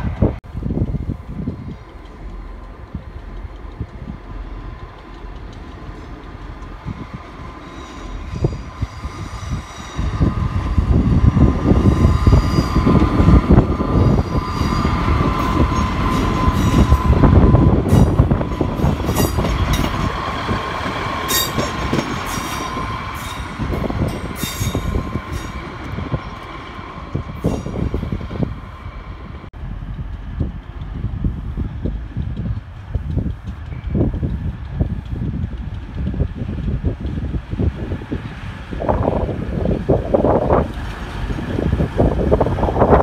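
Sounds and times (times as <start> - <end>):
train engine and wheels rumbling: 0.0 - 43.0.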